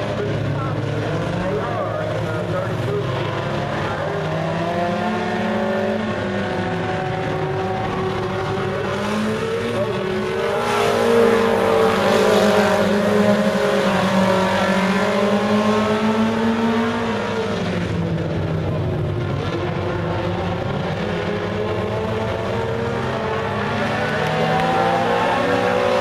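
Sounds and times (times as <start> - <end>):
race car engines: 0.0 - 26.0.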